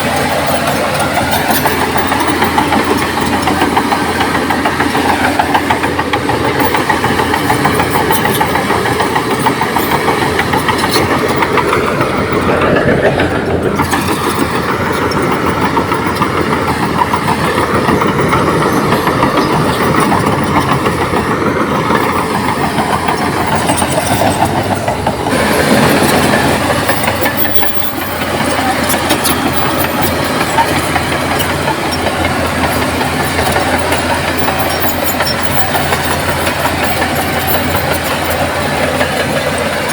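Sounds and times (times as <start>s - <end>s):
bulldozer diesel engine under load: 0.0s - 39.9s
dense rattling clatter: 0.0s - 39.9s.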